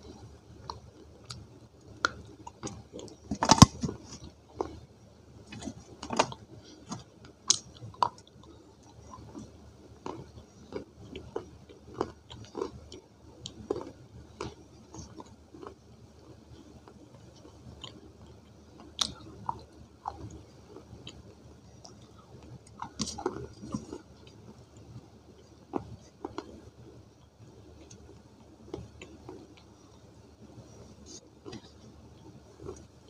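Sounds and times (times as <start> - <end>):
clay crunching while chewed: 0.0 - 4.8, 5.4 - 30.0, 30.7 - 33.0.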